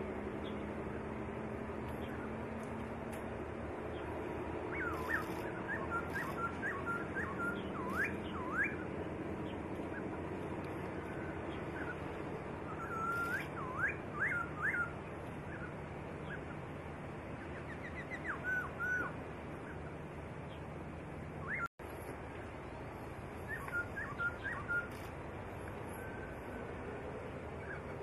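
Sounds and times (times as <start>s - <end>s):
songbird singing: 0.0s - 28.0s
steady hiss: 0.0s - 28.0s.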